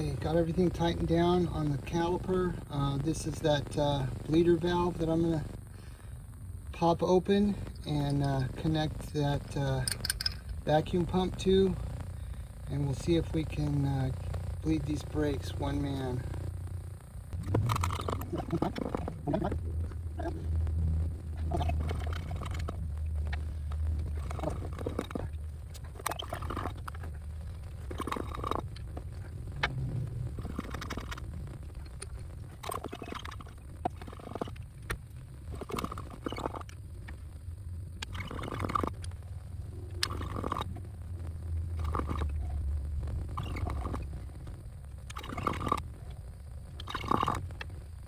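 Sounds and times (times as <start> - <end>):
brake fluid gurgles: 0.0 - 16.6, 17.3 - 48.0
low pump hum: 0.0 - 48.0.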